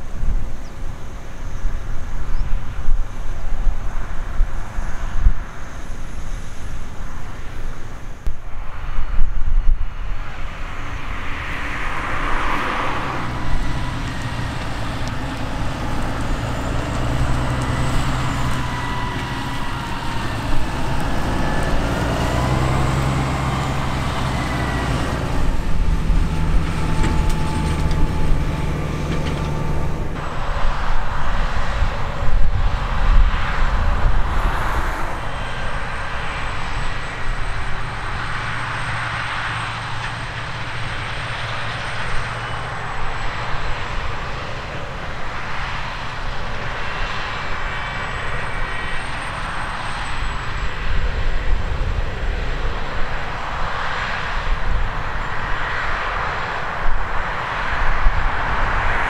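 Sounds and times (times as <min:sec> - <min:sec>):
diesel engines droning with whine: 0:00.0 - 0:59.0.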